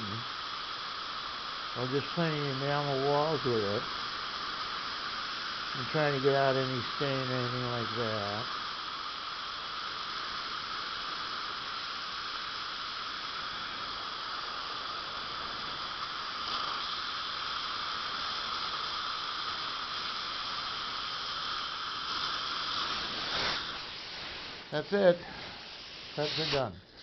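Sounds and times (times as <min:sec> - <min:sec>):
dental drill with hissing spray: 0:00.0 - 0:27.0.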